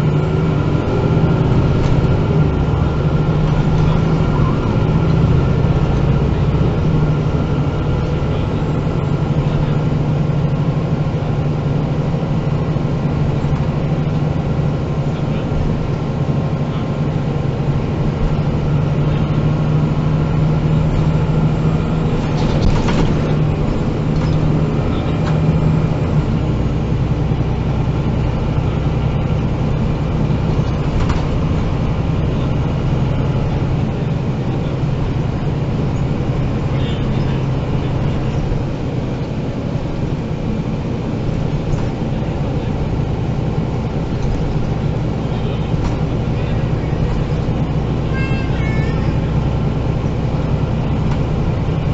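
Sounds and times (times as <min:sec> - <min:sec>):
bus engine drone: 0:00.0 - 0:51.9.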